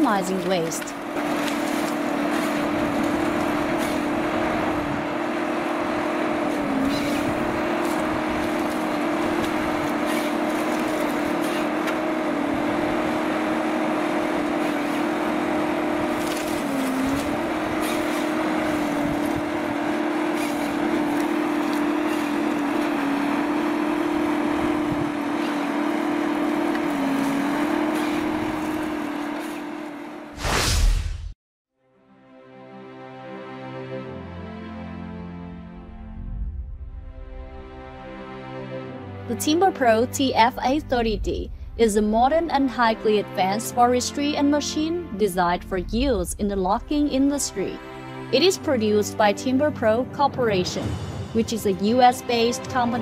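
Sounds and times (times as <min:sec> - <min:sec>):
diesel engine and hydraulics droning: 0:00.0 - 0:30.4, 0:35.4 - 0:53.0.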